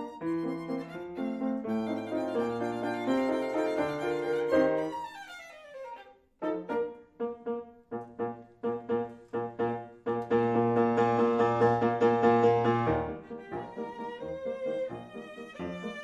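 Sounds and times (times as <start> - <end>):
piano music: 0.0 - 5.2, 6.4 - 16.0.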